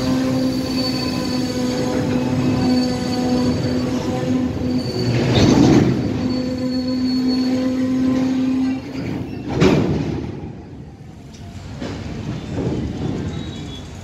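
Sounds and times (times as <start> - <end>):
train wheels squealing: 0.0 - 9.8, 11.5 - 14.0
freight train wagons rolling: 0.0 - 14.0.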